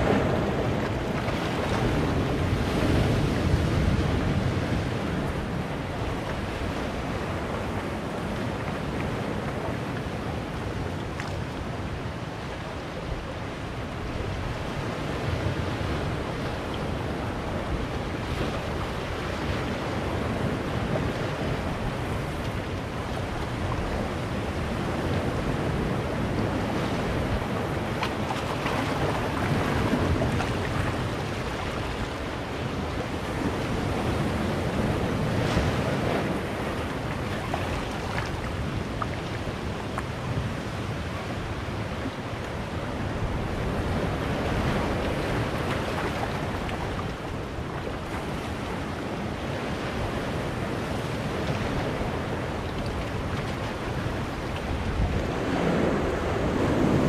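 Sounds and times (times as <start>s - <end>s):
surf splashing against rocks: 0.0s - 12.2s, 14.0s - 57.0s.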